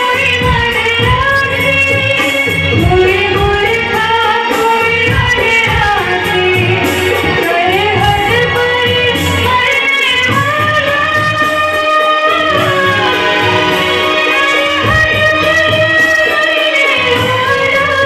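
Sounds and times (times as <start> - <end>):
backing track with low beat: 0.0 - 18.0.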